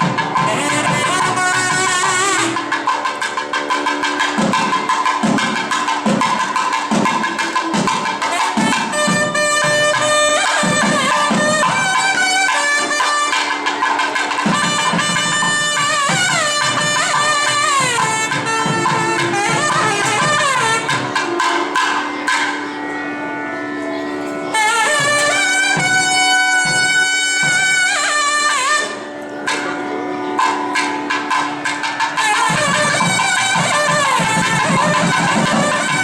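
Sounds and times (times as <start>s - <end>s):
drum strokes: 0.0s - 22.7s, 24.5s - 36.0s
reed pipe melody: 0.0s - 36.0s.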